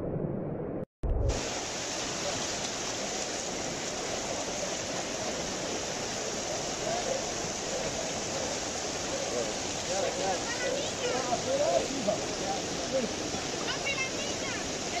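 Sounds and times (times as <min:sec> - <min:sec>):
heavy rain: 0:01.2 - 0:15.0
rushing floodwater: 0:01.3 - 0:15.0.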